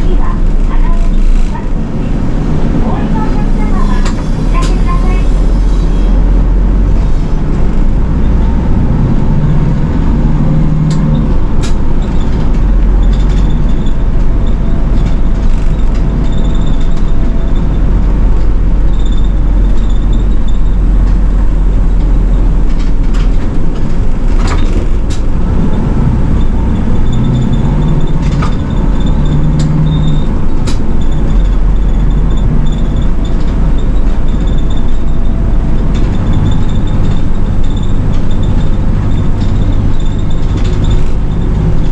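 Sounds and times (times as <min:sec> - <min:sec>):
sharp clicks and rattles: 0:00.0 - 0:05.1, 0:06.4 - 0:41.9
bus engine drone and road rumble: 0:00.0 - 0:41.9.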